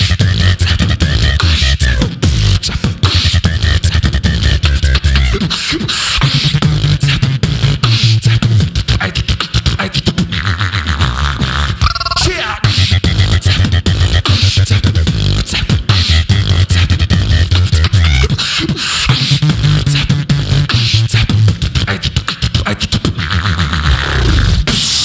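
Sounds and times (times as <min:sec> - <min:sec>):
beatboxed deep bass line: 0:00.0 - 0:25.0
beatboxing snare and hi-hat clicks: 0:00.0 - 0:25.0.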